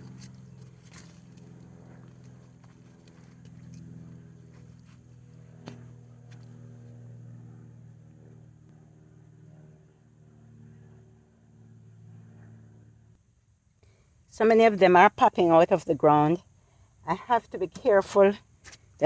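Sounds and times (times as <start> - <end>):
faint engine hum: 0.0 - 19.0.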